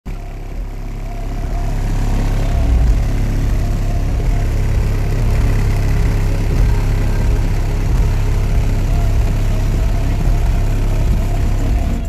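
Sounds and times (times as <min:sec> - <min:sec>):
car subwoofers booming deep bass: 0:00.0 - 0:12.0.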